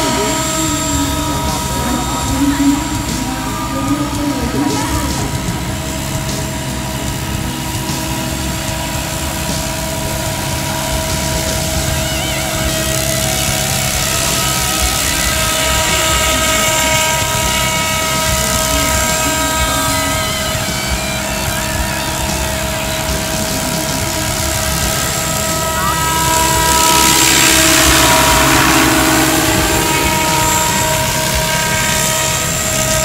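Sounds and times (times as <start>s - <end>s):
electric motor whine: 0.0s - 33.0s
rotor blades whirring: 0.0s - 33.0s.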